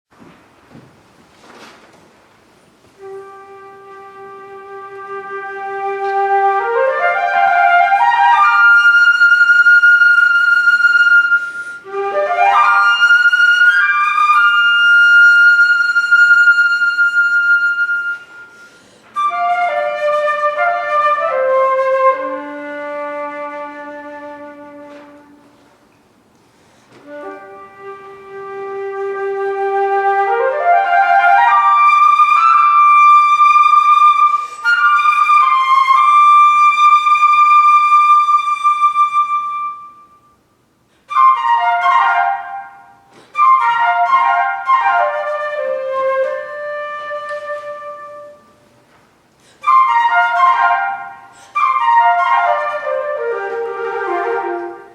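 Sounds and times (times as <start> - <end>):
solo flute melody: 2.9 - 25.8, 26.9 - 54.9.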